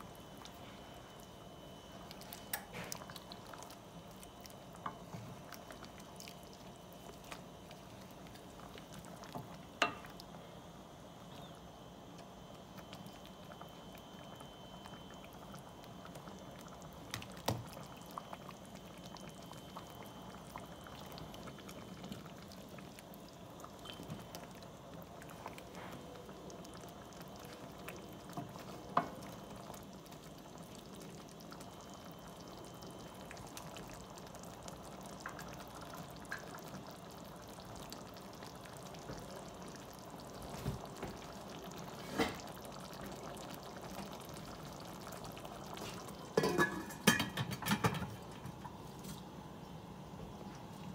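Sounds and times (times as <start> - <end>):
shrimp simmering in sauce: 0.0 - 50.9.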